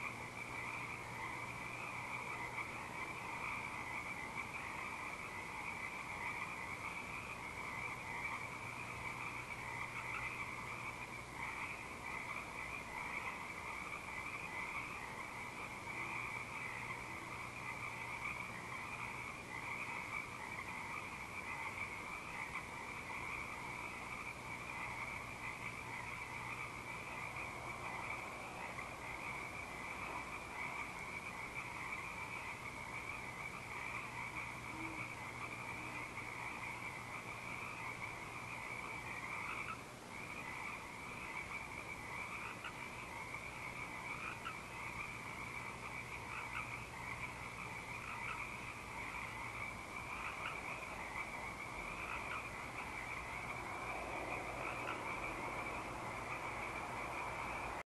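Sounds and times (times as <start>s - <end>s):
frogs calling: 0.0s - 57.8s.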